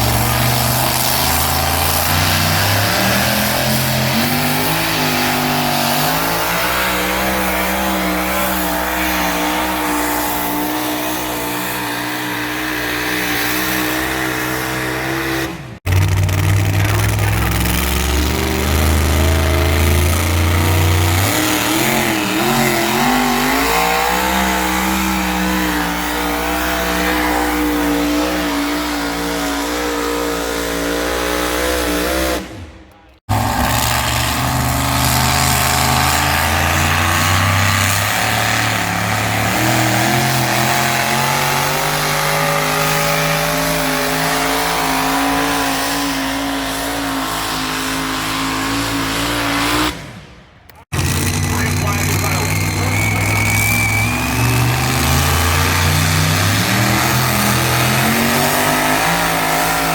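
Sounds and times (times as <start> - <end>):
tractor engine running hard: 0.0 - 50.0, 50.6 - 59.9.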